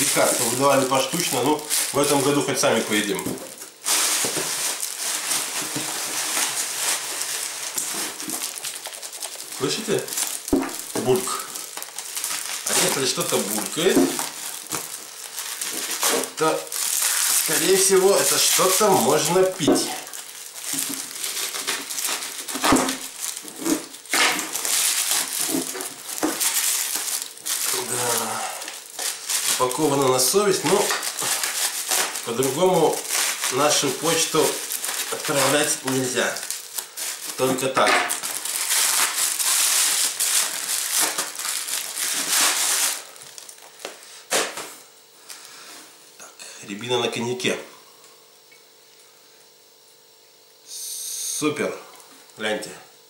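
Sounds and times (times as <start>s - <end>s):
plastic wrap crinkling: 0.0s - 45.5s.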